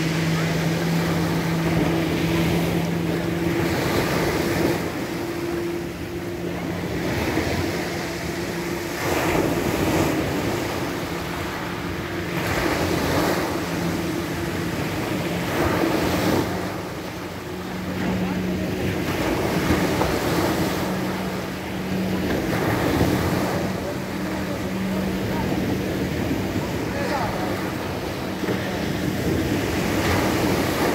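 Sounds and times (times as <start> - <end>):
motorboat engine humming: 0.0 - 30.9.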